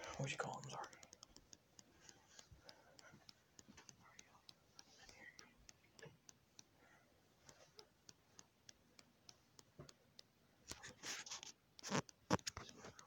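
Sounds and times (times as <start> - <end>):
faint regular ticking: 0.0 - 13.0.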